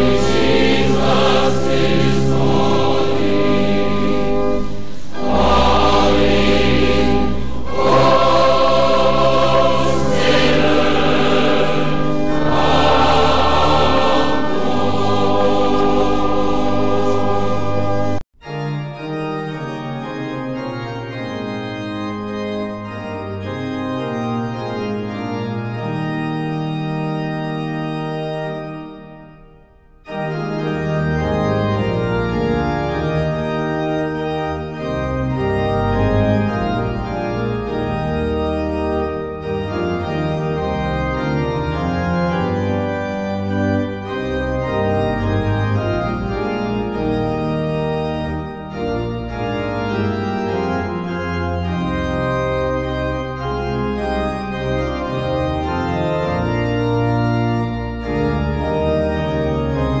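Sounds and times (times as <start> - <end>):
organ music: 0.0 - 60.0.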